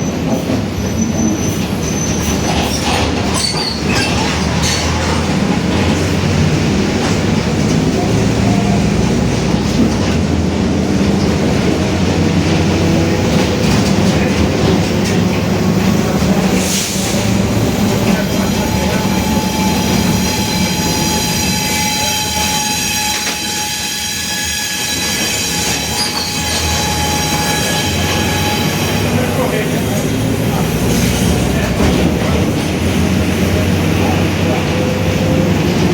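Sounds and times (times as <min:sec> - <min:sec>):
diesel bus engine droning: 0:04.0 - 0:23.7, 0:25.0 - 0:35.9.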